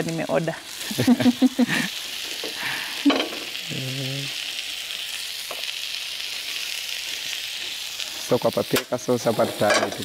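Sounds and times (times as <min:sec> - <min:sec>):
oil sizzling in a frying pan: 0:00.0 - 0:10.0.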